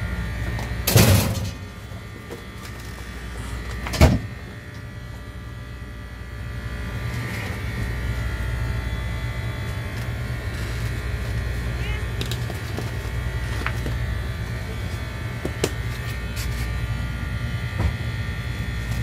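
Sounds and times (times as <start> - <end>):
machine hum with faint whine: 0.0 - 19.0.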